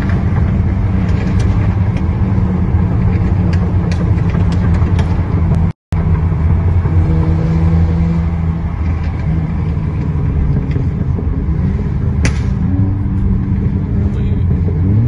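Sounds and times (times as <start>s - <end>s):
car engines cruising: 0.0s - 15.0s
road rumble: 0.0s - 15.0s.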